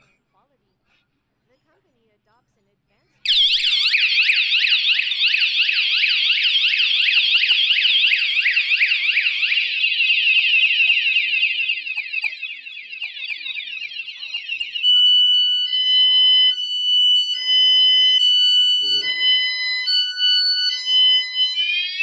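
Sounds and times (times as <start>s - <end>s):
alarm siren warbling: 3.3s - 22.0s.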